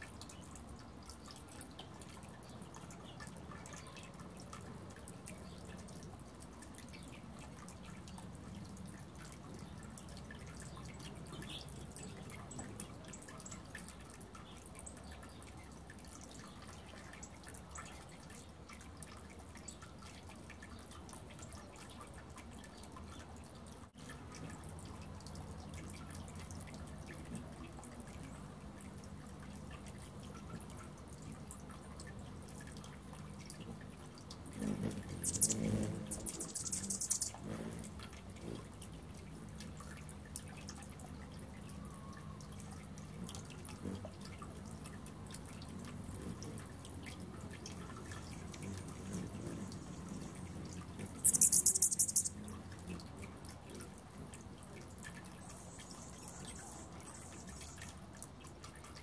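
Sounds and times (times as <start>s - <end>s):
hummingbird wings humming: 0.1s - 20.3s, 24.2s - 58.2s.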